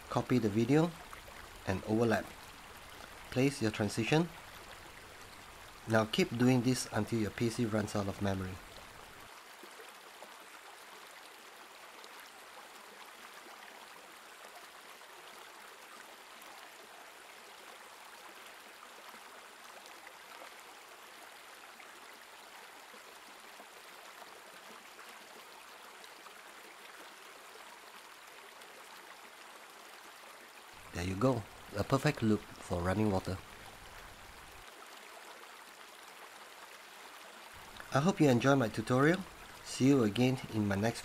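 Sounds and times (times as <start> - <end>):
stream running over rocks: 0.0 - 41.0.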